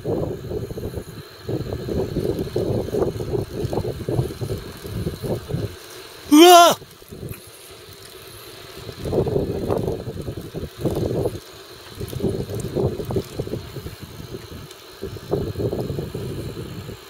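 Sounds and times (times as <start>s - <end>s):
bicycle tyre rumble: 1.6s - 6.1s, 7.0s - 16.9s.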